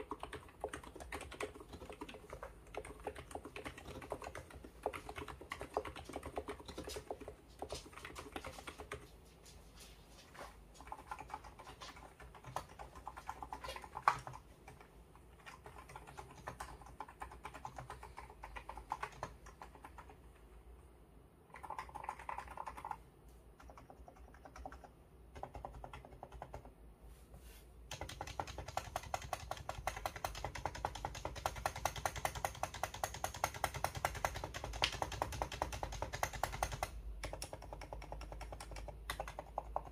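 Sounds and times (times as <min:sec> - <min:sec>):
keyboard typing: 0:00.0 - 0:09.2, 0:10.8 - 0:20.5, 0:21.5 - 0:26.8, 0:27.9 - 0:39.9.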